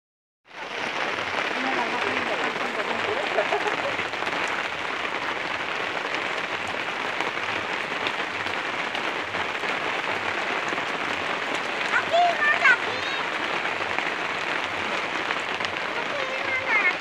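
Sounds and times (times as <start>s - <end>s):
rain on pavement and grass: 0.4s - 17.0s.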